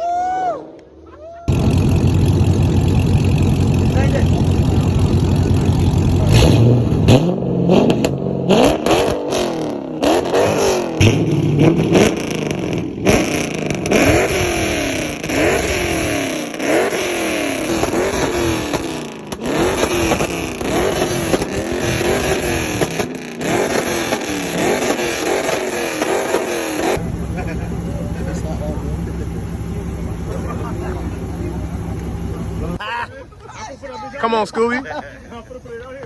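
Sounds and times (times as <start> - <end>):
car engine revving hard: 1.5 - 32.8.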